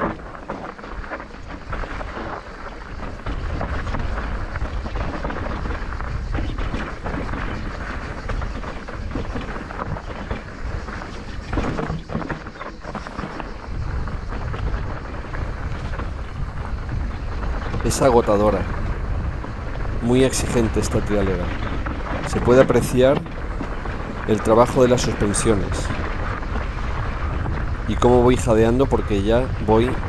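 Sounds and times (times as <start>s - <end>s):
bike rattling over bumps: 0.0s - 30.0s
tyres crunching on gravel: 0.0s - 30.0s
wind rumble on microphone: 0.0s - 30.0s.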